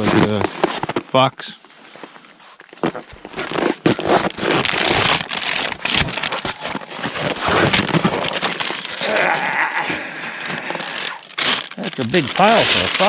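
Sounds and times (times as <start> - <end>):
crackling crinkling rustle: 0.0 - 13.0.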